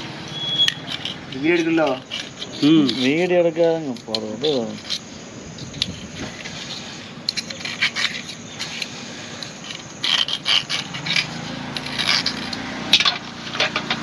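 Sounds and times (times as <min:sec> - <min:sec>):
metal parts clinking and scraping: 0:00.3 - 0:14.0.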